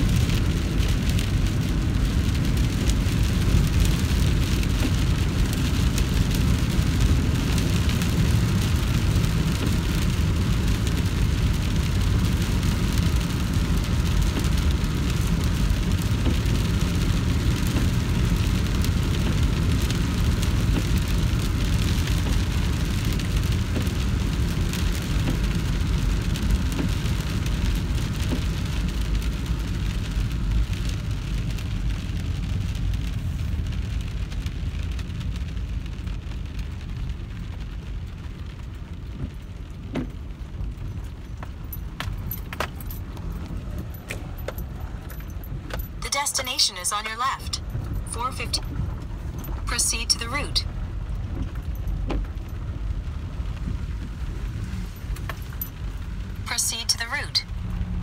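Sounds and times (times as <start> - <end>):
rain pattering on car windshield: 0.0 - 58.0
tyres rumbling on wet road: 0.0 - 58.0.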